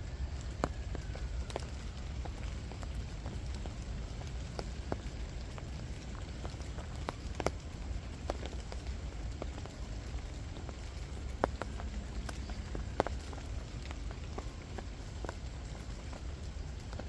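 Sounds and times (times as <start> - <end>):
raindrops ticking: 0.0 - 17.0.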